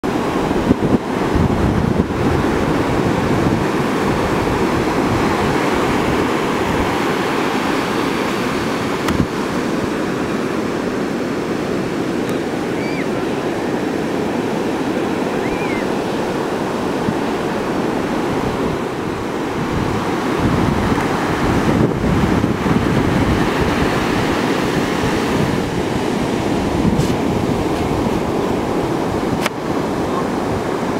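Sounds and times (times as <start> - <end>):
ocean waves breaking: 0.0 - 30.9.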